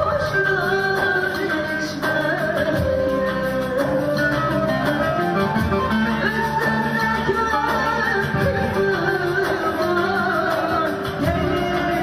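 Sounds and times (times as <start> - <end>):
instrumental accompaniment: 0.0 - 12.0
woman singing into a microphone: 0.0 - 12.0.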